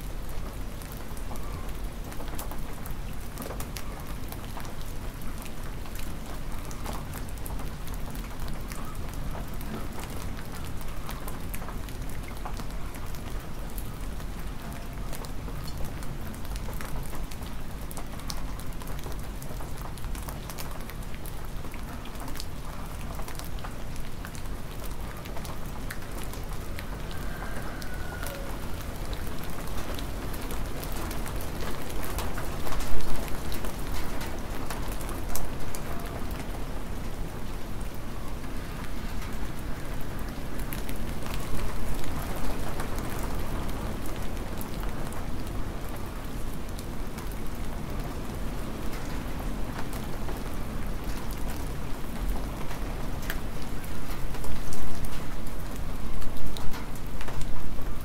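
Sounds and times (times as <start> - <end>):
hard rain falling: 0.0 - 58.0.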